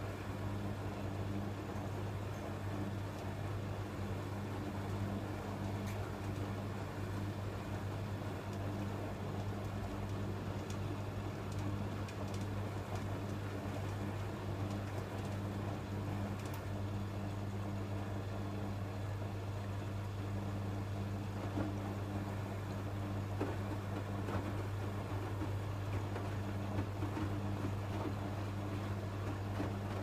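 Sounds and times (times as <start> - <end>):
washing machine humming: 0.0 - 30.0.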